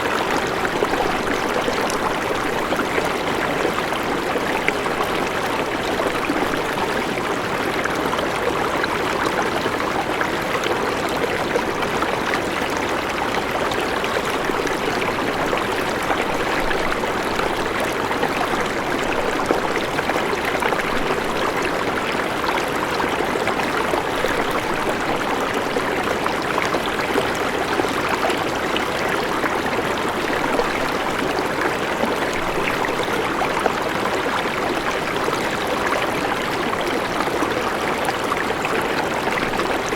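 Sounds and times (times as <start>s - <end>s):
river water rushing over rocks: 0.0s - 8.0s, 13.4s - 39.9s.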